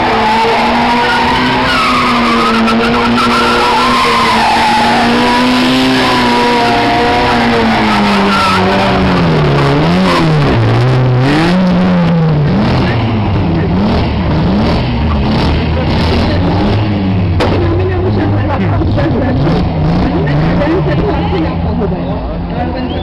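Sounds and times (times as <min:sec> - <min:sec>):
car engine revving: 0:00.0 - 0:23.0
tyres skidding on asphalt: 0:00.0 - 0:23.0.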